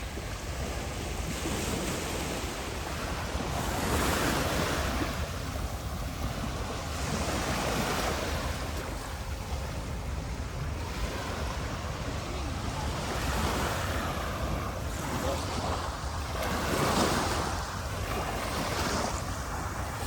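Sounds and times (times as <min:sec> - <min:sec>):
surf washing onto beach: 0:00.0 - 0:20.0
wind rumble on microphone: 0:00.0 - 0:20.0.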